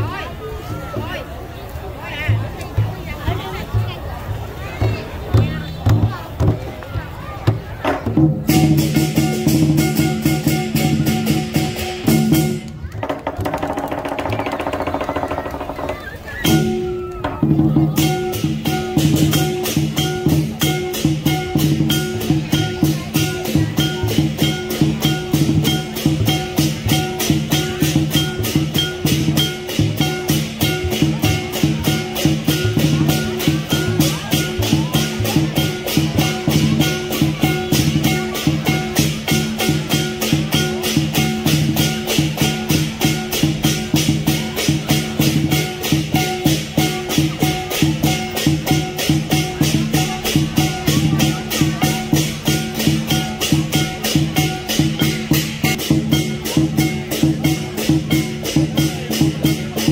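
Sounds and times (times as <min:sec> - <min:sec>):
drum beat: 0:02.2 - 0:59.9
cymbals clashing: 0:08.4 - 0:12.8, 0:16.4 - 0:59.9.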